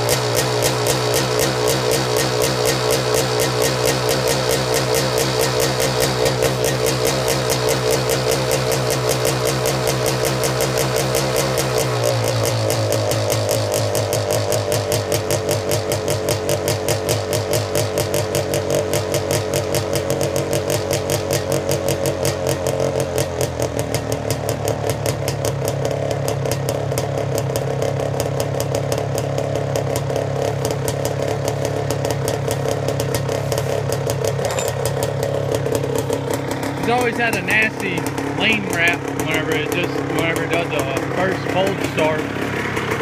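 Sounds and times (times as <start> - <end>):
two-stroke engine running: 0.0 - 43.0.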